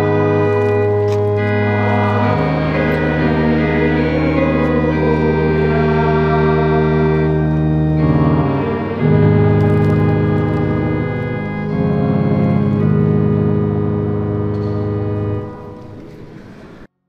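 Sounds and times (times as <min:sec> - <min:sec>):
organ playing slow chords: 0:00.0 - 0:16.9.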